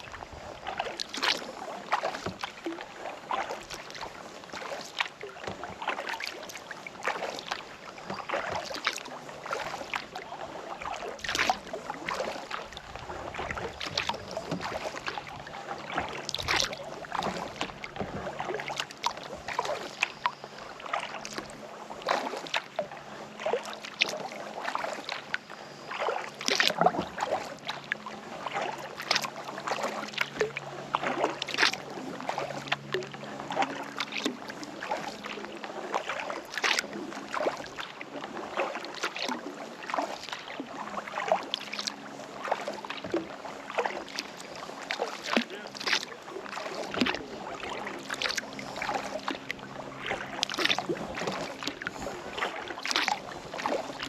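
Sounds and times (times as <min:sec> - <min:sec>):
paddle splashing into water: 0:00.0 - 0:54.0
water dripping off paddle: 0:00.7 - 0:22.7, 0:25.9 - 0:37.9, 0:41.2 - 0:54.0.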